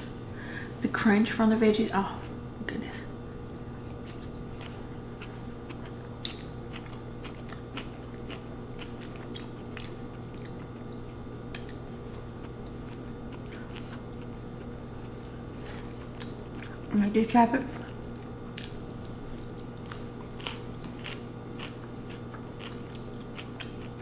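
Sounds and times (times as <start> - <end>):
chewing noodles: 3.8 - 16.9, 17.7 - 24.0.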